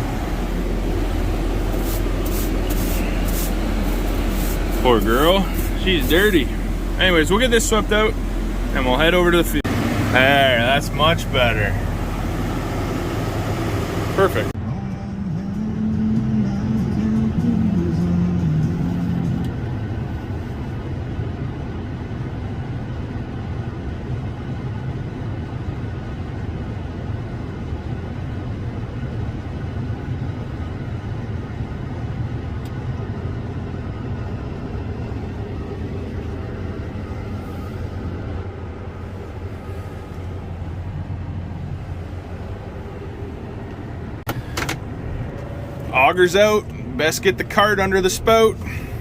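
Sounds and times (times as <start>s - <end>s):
tractor diesel engine rumbling: 0.0s - 49.0s.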